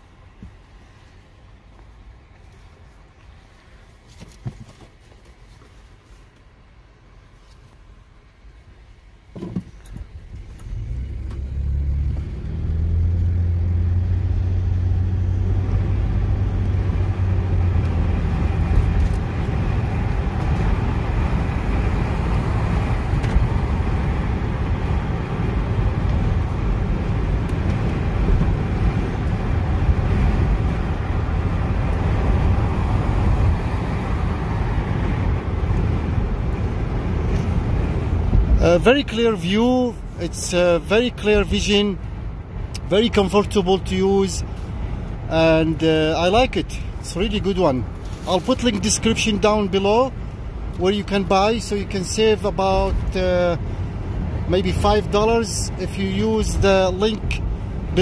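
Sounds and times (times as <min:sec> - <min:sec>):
tyre and road noise: 0:00.0 - 0:58.0
car engine drone: 0:08.0 - 0:58.0.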